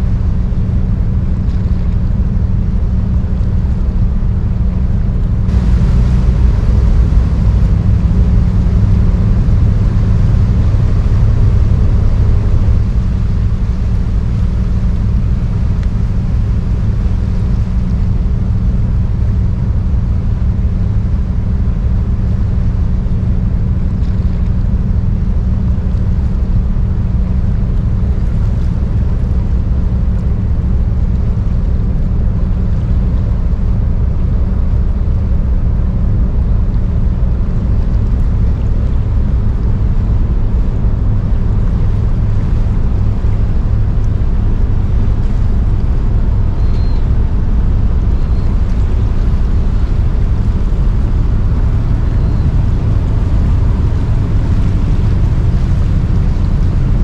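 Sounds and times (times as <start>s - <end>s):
ship engine droning: 0.0s - 57.0s
wind and water noise: 0.0s - 57.0s.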